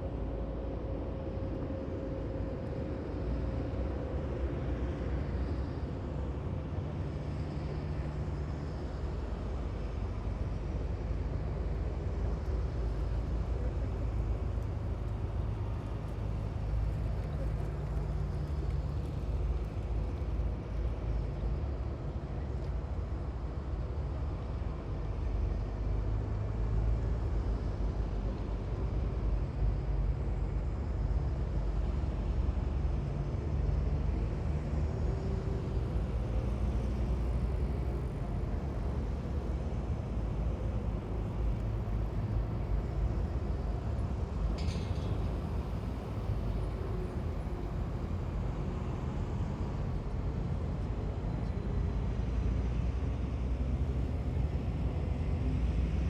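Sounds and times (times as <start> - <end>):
heavy vehicles engine rumble: 0.0 - 56.0.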